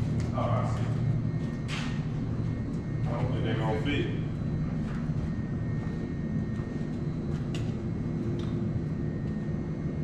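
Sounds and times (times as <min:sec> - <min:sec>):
faint steady hum: 0:00.0 - 0:10.0
workshop background rumble: 0:00.0 - 0:10.0.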